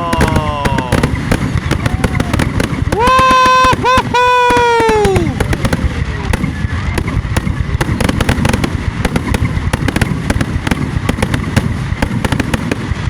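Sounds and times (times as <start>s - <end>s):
fireworks cracks and pops: 0.0s - 13.0s
low rumble of bursting shells: 0.0s - 13.0s.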